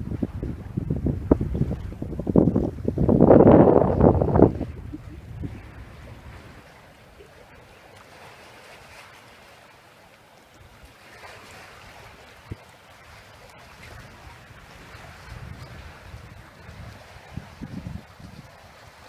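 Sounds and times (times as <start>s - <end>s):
sea water lapping: 0.0s - 19.0s.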